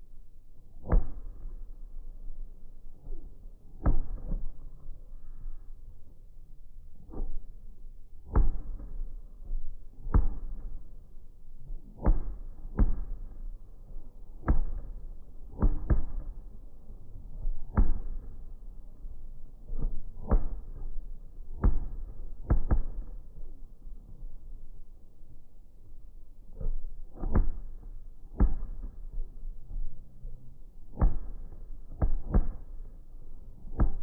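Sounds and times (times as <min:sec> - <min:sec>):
low rumble: 0:00.0 - 0:34.0.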